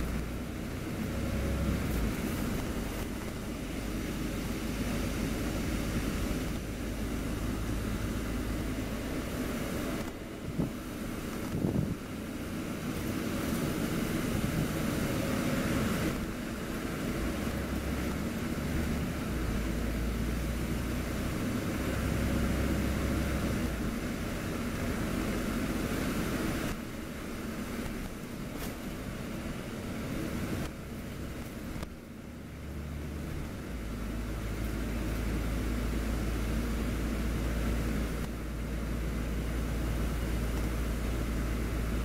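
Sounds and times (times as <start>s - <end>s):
bus diesel engine: 0.0s - 42.0s.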